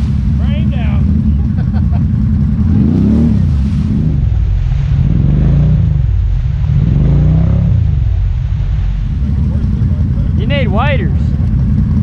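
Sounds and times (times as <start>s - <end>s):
atv engine revving: 0.0s - 8.3s, 8.9s - 12.0s.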